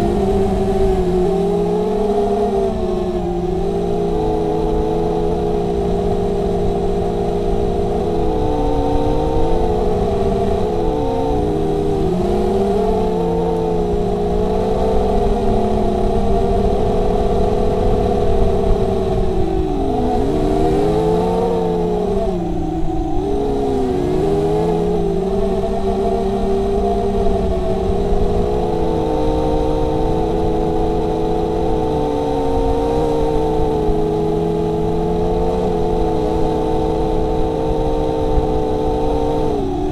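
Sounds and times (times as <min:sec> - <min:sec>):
prop wash and wind noise: 0:00.0 - 0:39.9
quadcopter motors whining: 0:00.0 - 0:39.9.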